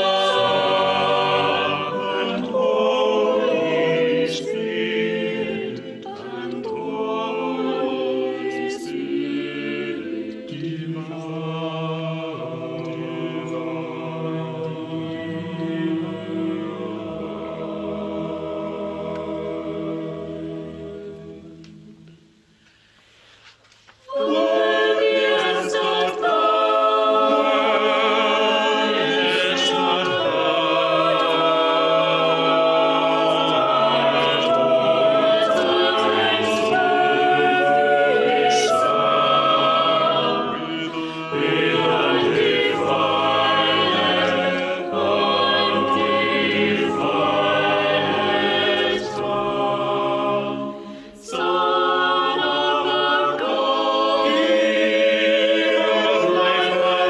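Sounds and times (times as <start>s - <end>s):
church choir singing: 0.0s - 22.4s, 23.0s - 57.0s.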